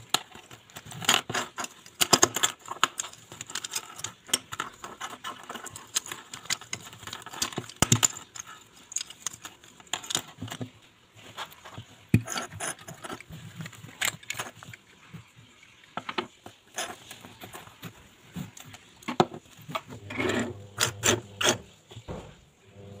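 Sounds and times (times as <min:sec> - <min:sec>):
pencil sharpeners clattering on wood: 0:00.0 - 0:22.1.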